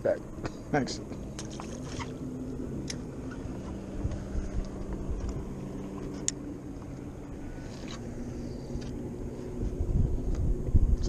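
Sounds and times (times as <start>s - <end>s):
boat motor humming: 0.0s - 11.0s
wind rumble on microphone: 1.0s - 11.0s.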